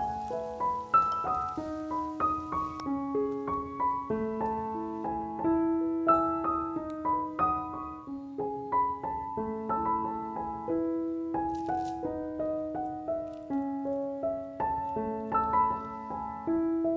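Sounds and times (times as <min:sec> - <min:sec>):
piano melody: 0:00.0 - 0:16.9.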